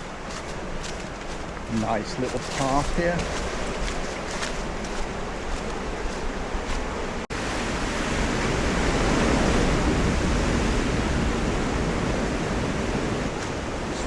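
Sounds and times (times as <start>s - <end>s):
sea surf washing onto beach: 0.0s - 14.0s.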